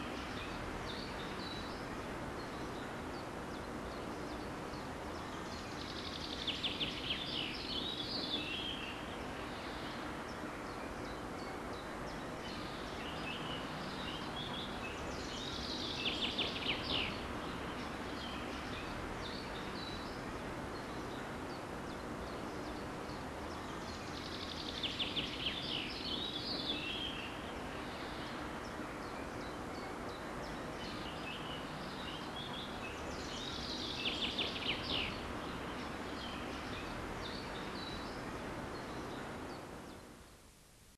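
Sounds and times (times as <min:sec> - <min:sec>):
trilled bird song: 0:00.0 - 0:40.2
songbirds singing: 0:00.0 - 0:40.7
background rush: 0:00.0 - 0:40.9.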